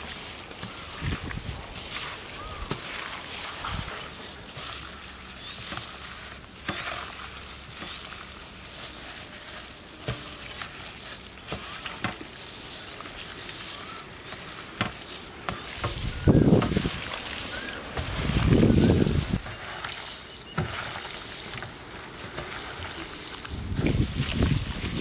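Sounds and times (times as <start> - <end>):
gloved hands squelching food: 0.0 - 25.0.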